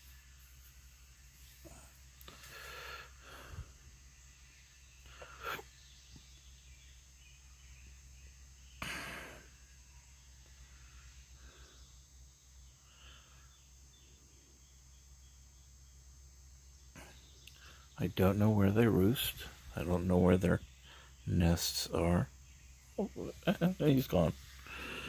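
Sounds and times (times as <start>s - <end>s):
faint steady low hum: 0.0s - 25.0s.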